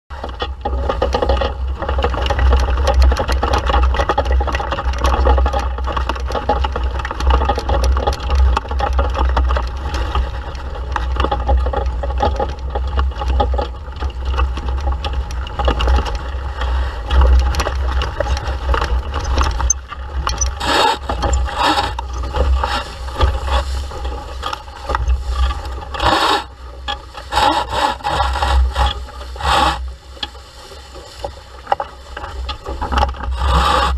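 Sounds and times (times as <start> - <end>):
water splashing along hull: 0.1 - 33.9.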